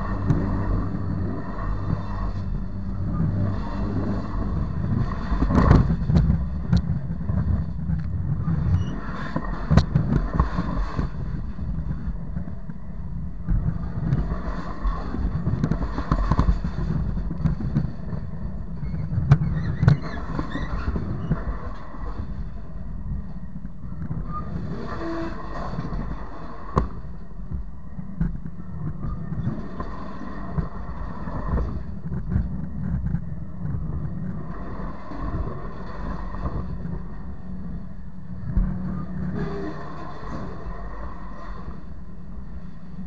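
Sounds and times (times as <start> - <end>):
train cars rumbling over track: 0.0 - 43.0.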